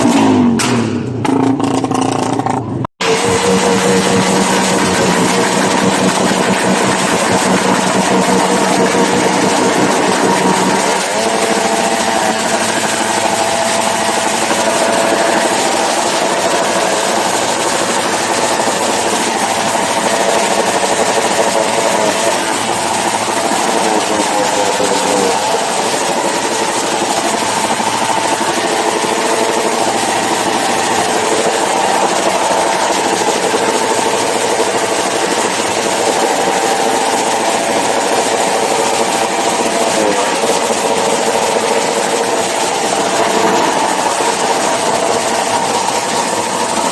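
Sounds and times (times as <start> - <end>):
motorcycle engines running: 0.0 - 46.9.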